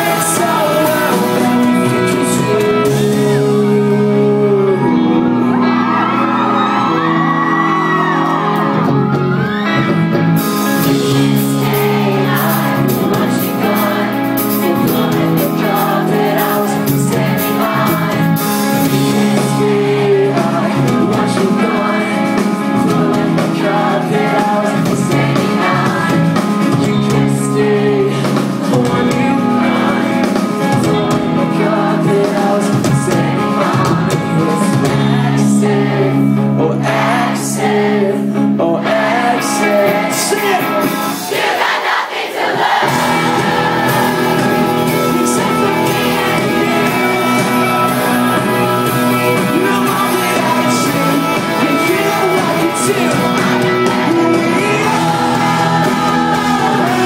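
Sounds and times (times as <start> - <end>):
person singing lead vocal: 0.0 - 9.7, 10.4 - 57.0
electric guitars: 0.0 - 42.0, 42.7 - 57.0
rock band playing: 0.0 - 57.0.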